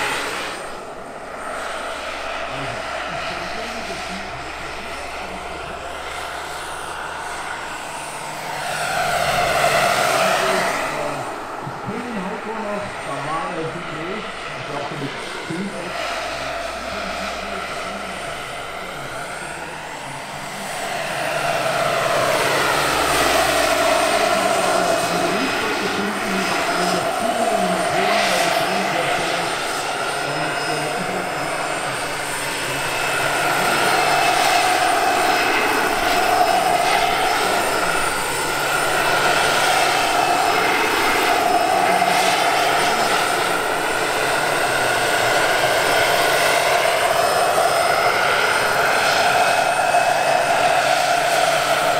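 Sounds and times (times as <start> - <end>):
model helicopter turbine whine: 0.0 - 51.9.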